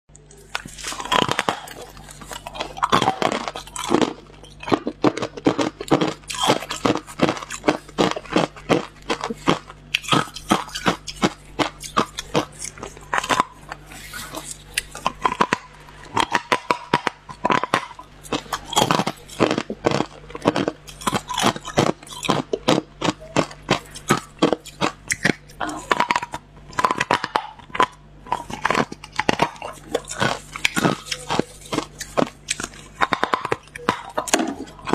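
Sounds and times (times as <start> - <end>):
ice being chewed: 0.1 - 34.9.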